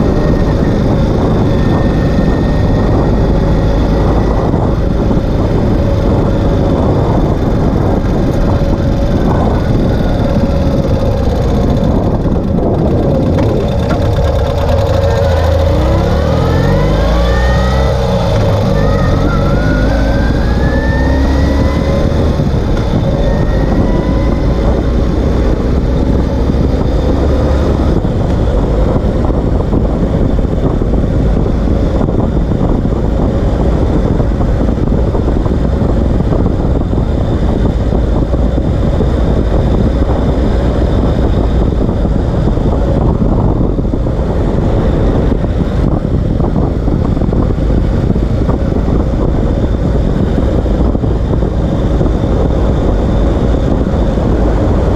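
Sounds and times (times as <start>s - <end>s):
motorcycle engine: 0.0s - 54.9s
tyre road noise: 0.0s - 54.9s.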